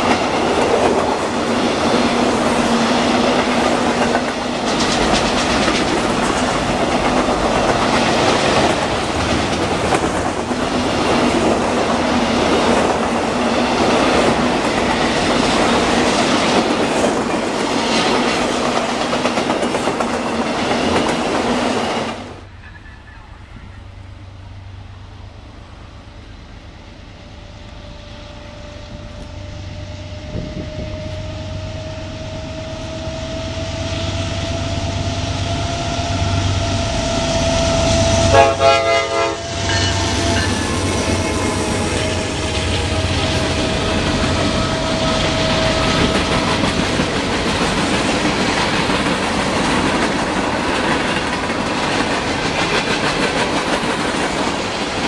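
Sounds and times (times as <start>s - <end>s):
diesel locomotive whine: 0.0s - 55.0s
train wheels rumbling on rails: 0.0s - 55.0s.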